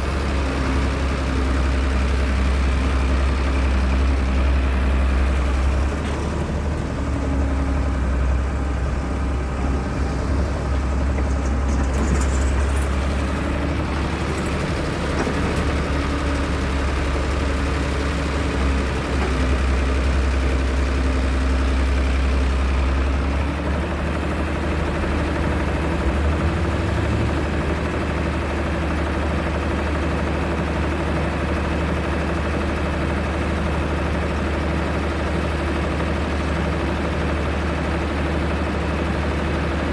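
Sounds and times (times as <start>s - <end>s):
excavator diesel engine drone: 0.0s - 39.9s.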